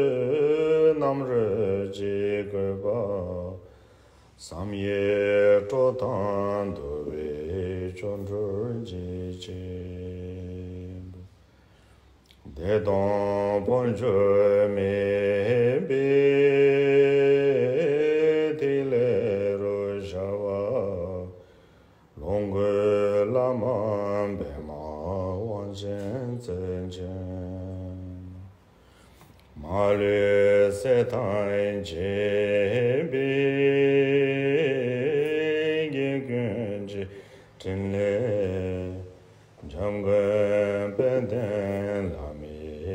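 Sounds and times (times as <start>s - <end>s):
man chanting prayer: 0.0s - 3.6s, 4.4s - 11.3s, 12.5s - 21.4s, 22.2s - 28.5s, 29.6s - 42.9s.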